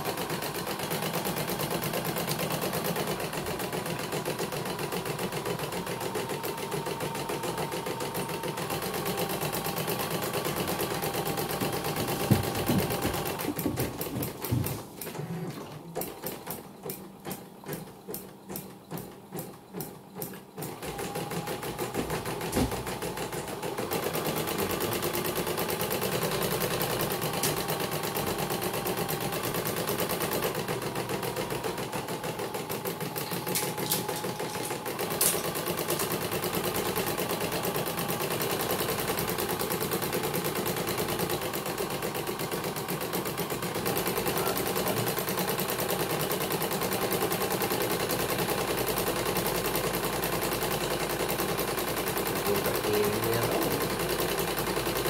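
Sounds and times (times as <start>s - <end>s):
embroidery machine clattering: 5.9s - 54.7s.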